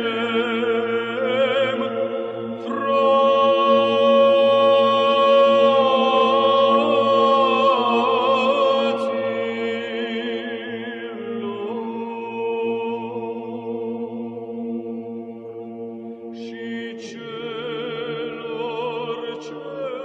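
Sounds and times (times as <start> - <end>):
voices chanting over low drone: 0.0 - 20.0.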